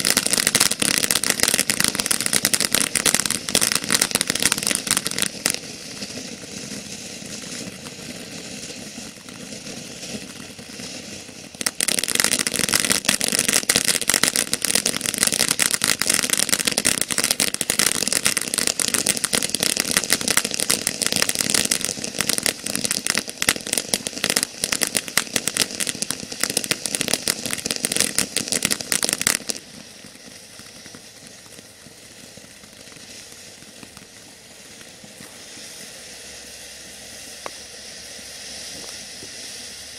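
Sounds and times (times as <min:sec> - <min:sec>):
firework fountain crackling: 0:00.0 - 0:39.9.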